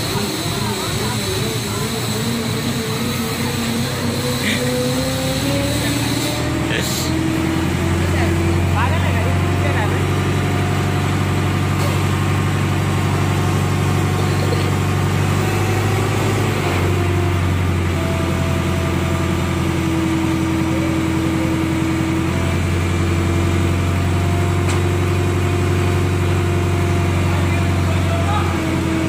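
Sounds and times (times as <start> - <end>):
diesel crane engine running: 0.0 - 29.0.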